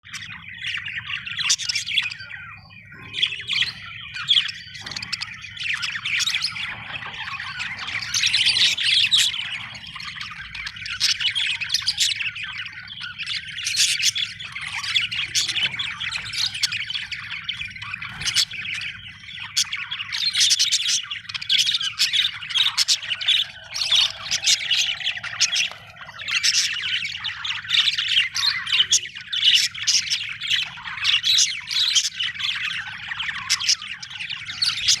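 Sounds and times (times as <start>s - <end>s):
budgerigars chattering: 0.1s - 35.0s.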